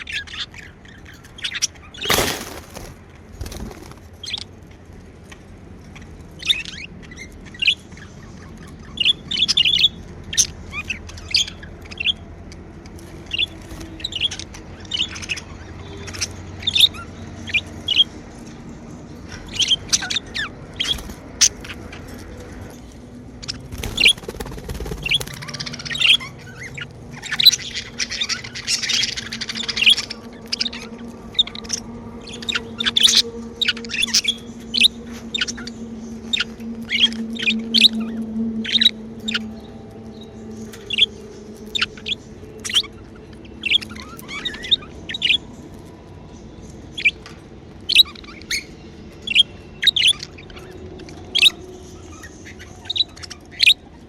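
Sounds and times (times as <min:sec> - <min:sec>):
budgerigars chirping: 0:00.0 - 0:04.6, 0:05.3 - 0:12.2, 0:13.2 - 0:18.2, 0:19.2 - 0:45.8, 0:46.9 - 0:54.0.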